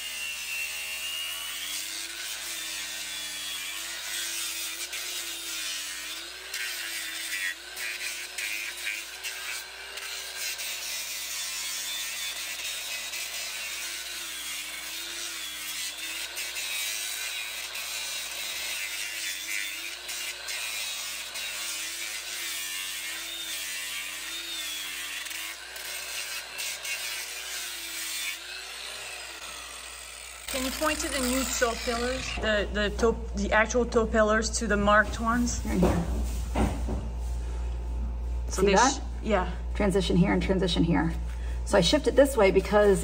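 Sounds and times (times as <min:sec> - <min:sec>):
angle grinder grinding: 0:00.0 - 0:43.0.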